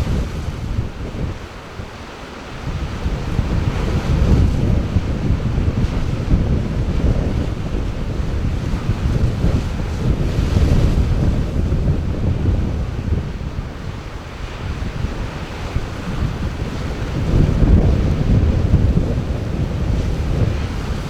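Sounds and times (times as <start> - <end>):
sea surf washing in: 0.0 - 21.0
wind buffeting microphone: 0.0 - 21.0.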